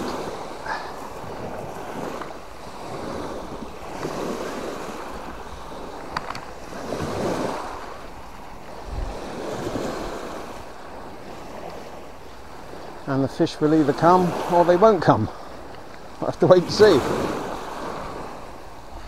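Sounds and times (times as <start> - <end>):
waves washing on stone beach: 0.0 - 19.0.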